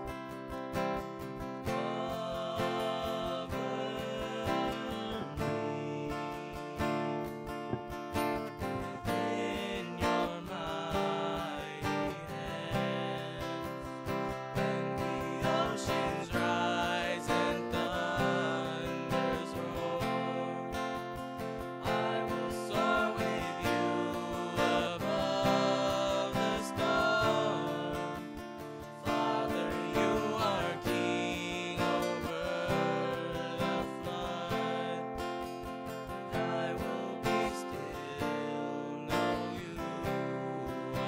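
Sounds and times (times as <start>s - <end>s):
acoustic guitar strumming: 0.0s - 41.0s
men singing: 1.6s - 7.0s, 8.6s - 35.4s, 36.0s - 41.0s.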